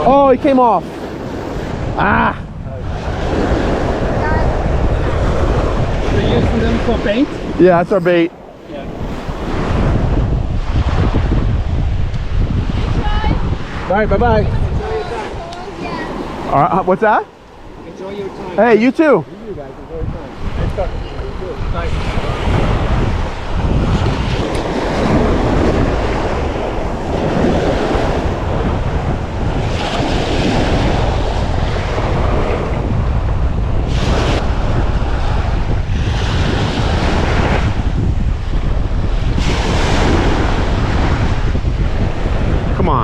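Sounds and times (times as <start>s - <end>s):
surf breaking on beach: 0.0s - 43.0s
wind buffeting microphone: 0.0s - 43.0s.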